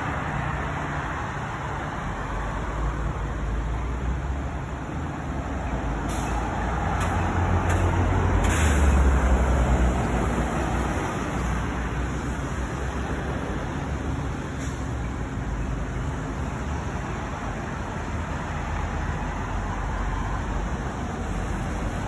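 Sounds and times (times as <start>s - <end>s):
heavy vehicle engine rumble: 0.0s - 22.0s
passing vehicles hum: 0.0s - 22.0s.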